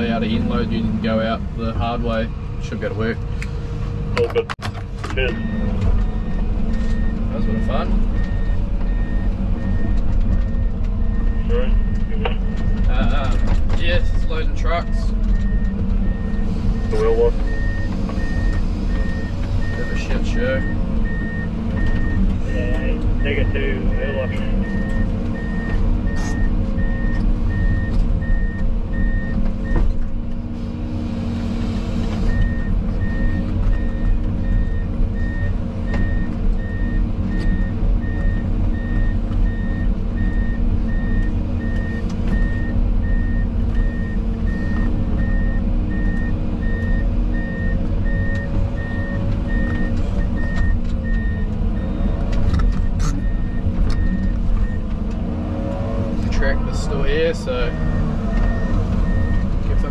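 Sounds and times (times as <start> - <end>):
diesel engine running: 0.0 - 59.9
reversing alarm beeping: 5.3 - 13.5, 14.8 - 29.8, 32.3 - 54.9, 57.7 - 59.9.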